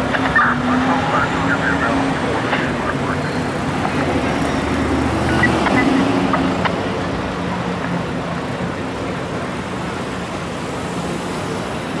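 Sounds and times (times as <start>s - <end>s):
traffic driving past: 0.0s - 12.0s.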